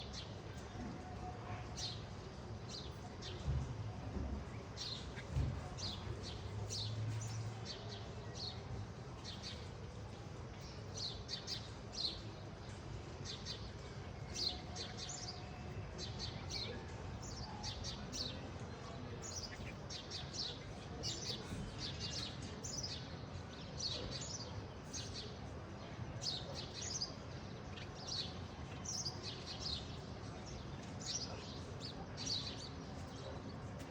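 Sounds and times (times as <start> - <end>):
small birds chirping: 4.4 - 33.9.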